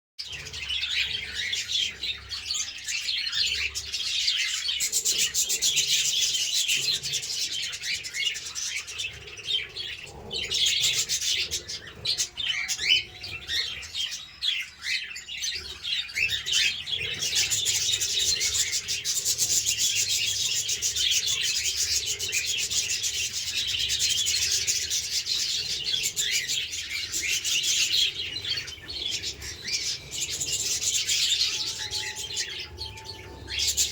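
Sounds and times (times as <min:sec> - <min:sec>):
caged birds chattering and chirping: 0:00.2 - 0:33.9.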